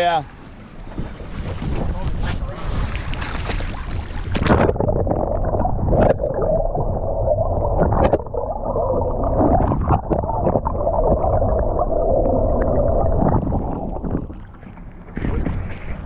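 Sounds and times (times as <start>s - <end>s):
gurgling water: 0.0s - 16.0s.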